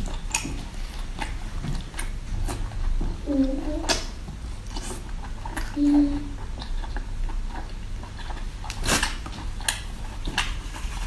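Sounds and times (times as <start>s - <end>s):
chewing and lip-smacking: 0.0s - 11.0s.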